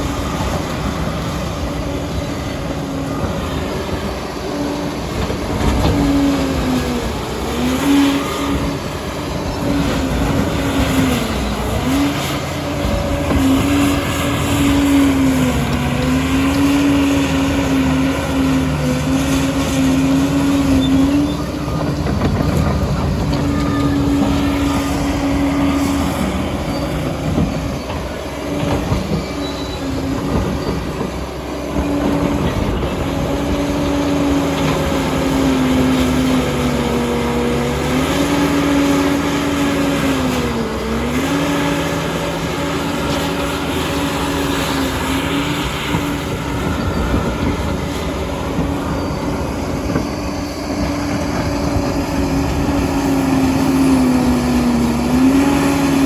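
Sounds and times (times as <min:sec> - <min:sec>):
diesel engine droning: 0:00.0 - 0:56.0
steel tracks clattering and squealing: 0:00.0 - 0:56.0.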